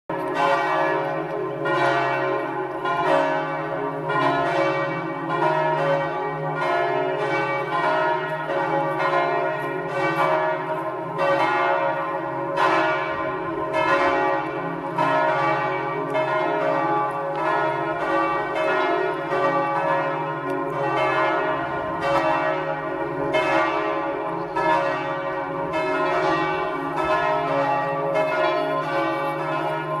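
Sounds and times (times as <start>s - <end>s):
church bells pealing: 0.1s - 30.0s.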